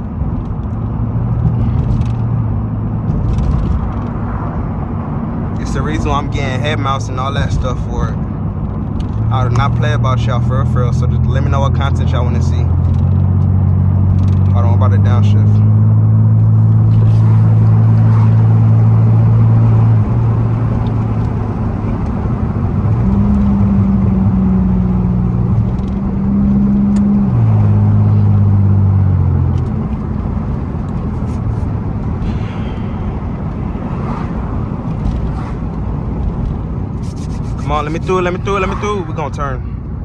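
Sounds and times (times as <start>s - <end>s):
car exhaust drone: 0.0s - 40.0s
road noise: 0.0s - 40.0s.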